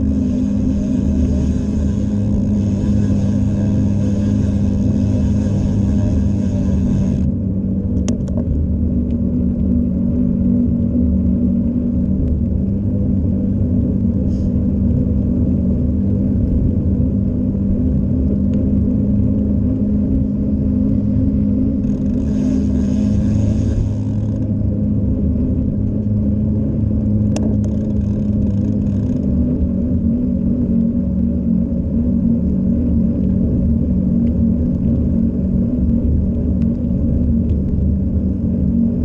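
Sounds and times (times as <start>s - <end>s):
wind noise on microphone: 0.0s - 39.0s.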